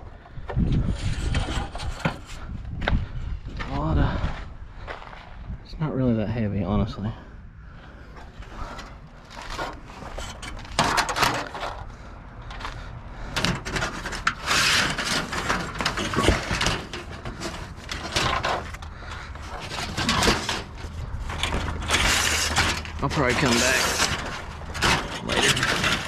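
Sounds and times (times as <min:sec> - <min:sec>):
scrap metal clattering and scraping: 0:00.0 - 0:05.3, 0:07.9 - 0:26.0.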